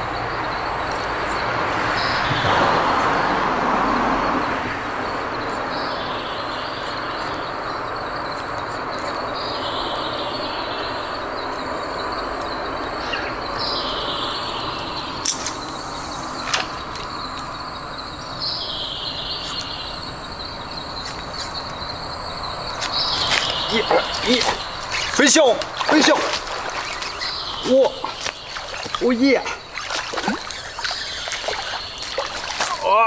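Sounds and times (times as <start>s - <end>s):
high insect drone: 0.0s - 33.0s
background hiss: 5.1s - 33.0s
bird calling: 5.1s - 33.0s.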